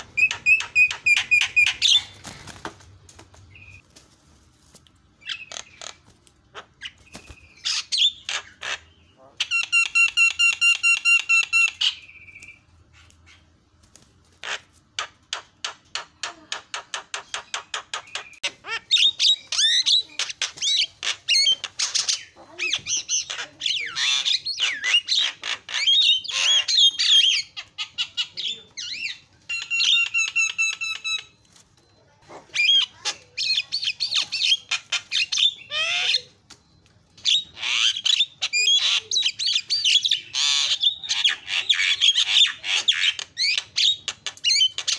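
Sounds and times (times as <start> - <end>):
bird squawks and chattering: 0.0 - 2.6, 5.2 - 13.6, 14.3 - 31.4, 32.0 - 36.4, 37.2 - 44.9.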